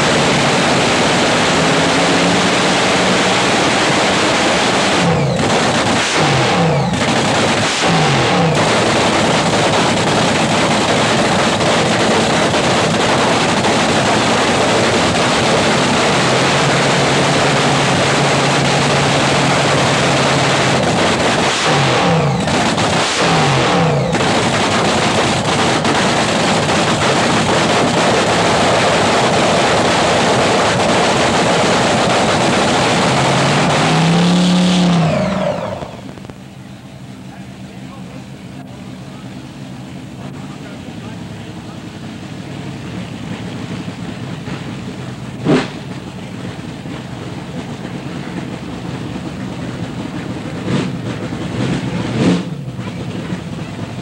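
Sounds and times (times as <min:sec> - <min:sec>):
dragster engine roaring: 0:00.0 - 0:54.0.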